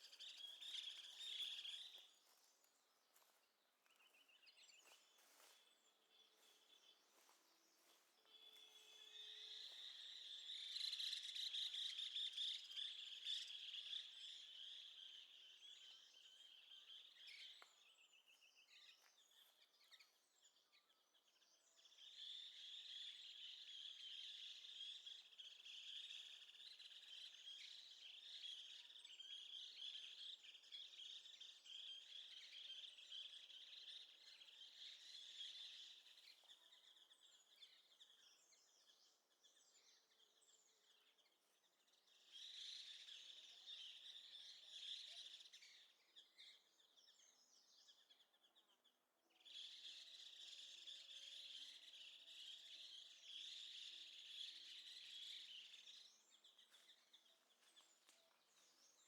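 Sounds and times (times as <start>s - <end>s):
birds chirping: 0.0s - 48.8s, 49.4s - 59.0s.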